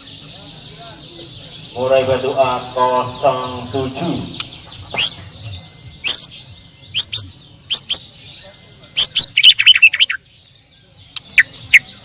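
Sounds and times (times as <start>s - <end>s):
songbirds whistling and chattering: 0.0s - 12.0s.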